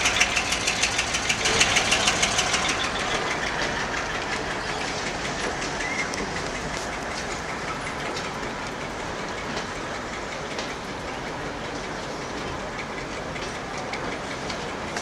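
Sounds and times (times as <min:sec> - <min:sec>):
train cars rumbling past: 0:00.0 - 0:15.0
wheels clacking over rail joints: 0:00.0 - 0:15.0.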